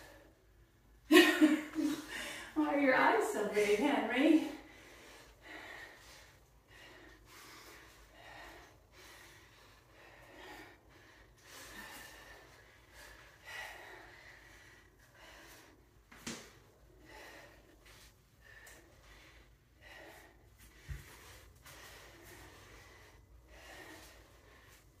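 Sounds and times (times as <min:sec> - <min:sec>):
person breathing hard: 0:01.8 - 0:02.6, 0:04.6 - 0:25.0.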